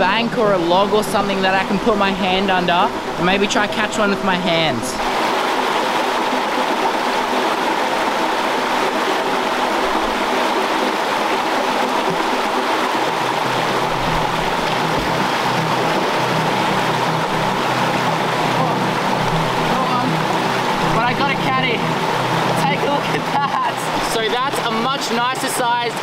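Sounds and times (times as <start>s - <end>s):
background music: 0.0s - 26.0s
creek water rushing: 0.0s - 26.0s.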